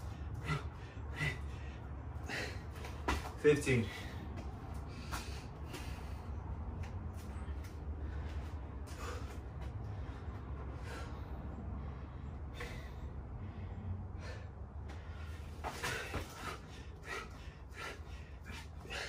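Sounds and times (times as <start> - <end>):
person breathing hard: 0.0 - 6.8, 7.4 - 19.0
low steady hum: 0.0 - 19.0.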